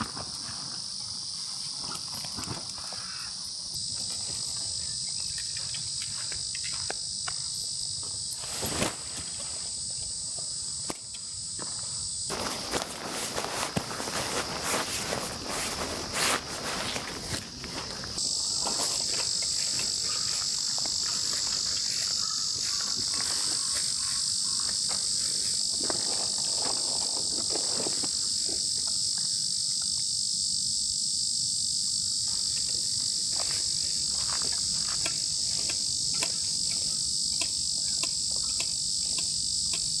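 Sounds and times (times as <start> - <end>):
high-pitched insect chorus: 0.0 - 40.0
higher-pitched insect: 0.0 - 40.0.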